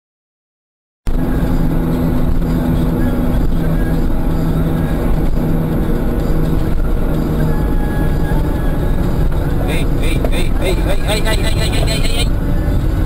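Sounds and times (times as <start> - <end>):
car engine hum: 1.1 - 13.0
road noise inside car: 1.1 - 13.0.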